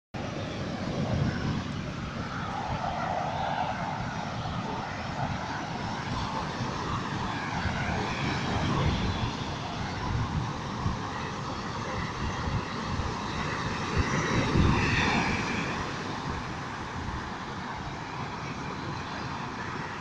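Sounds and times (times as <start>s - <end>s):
wind buffeting microphone: 0.2s - 20.0s.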